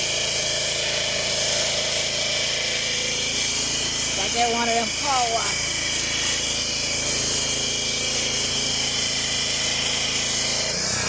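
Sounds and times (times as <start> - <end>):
pressure washer engine running: 0.0 - 11.0.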